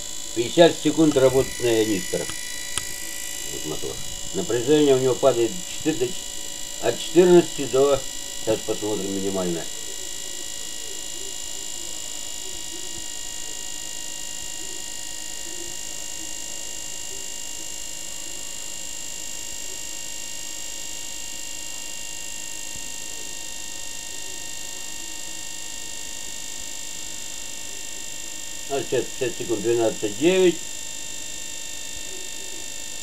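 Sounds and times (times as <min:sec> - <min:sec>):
electric motor humming and whining: 0:00.0 - 0:33.0.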